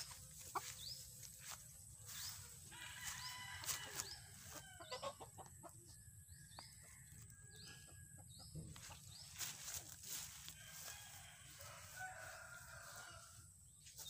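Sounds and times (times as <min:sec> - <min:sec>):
chickens clucking: 0:00.0 - 0:11.3.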